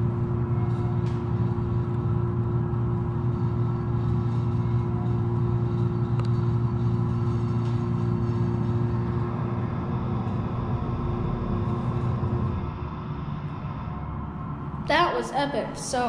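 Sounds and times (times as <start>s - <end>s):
hydraulic elevator pump motor humming: 0.0s - 14.7s.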